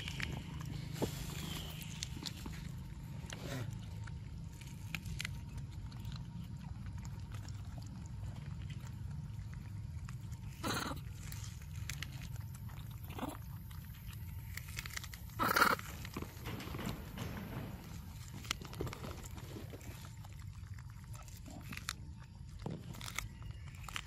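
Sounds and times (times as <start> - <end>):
steady low rumble: 0.0 - 22.6
monkeys feeding: 0.0 - 24.0.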